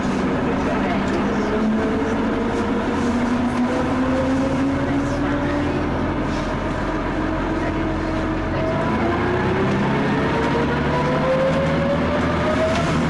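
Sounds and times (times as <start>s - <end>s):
bus diesel engine: 0.0s - 13.0s.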